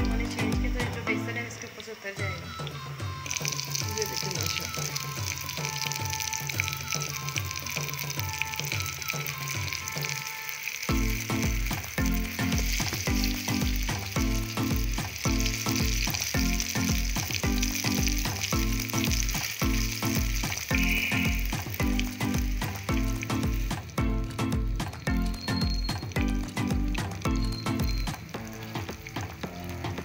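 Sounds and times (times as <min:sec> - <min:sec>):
background music with steady beat: 0:00.0 - 0:30.0
patties sizzling in hot oil: 0:00.0 - 0:30.0.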